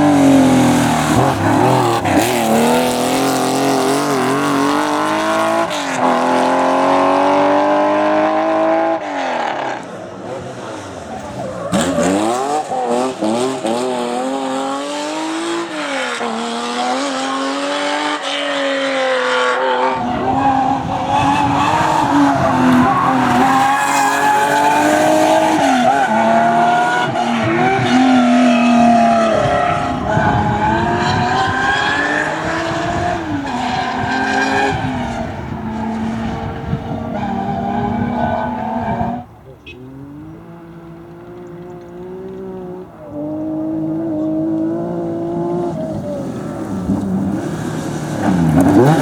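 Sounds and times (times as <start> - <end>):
racing car engines revving: 0.0 - 49.0.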